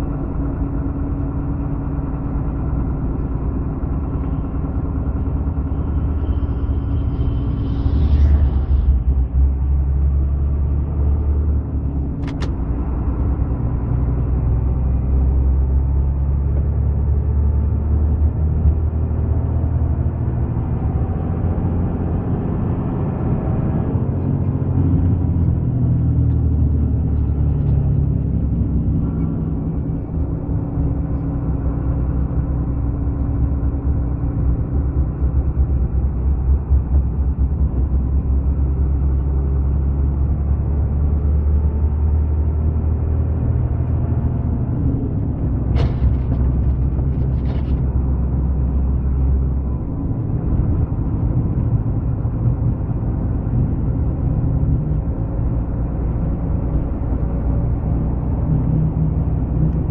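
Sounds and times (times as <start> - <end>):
road rumble: 0.0 - 59.9
vehicle engine: 0.0 - 59.9.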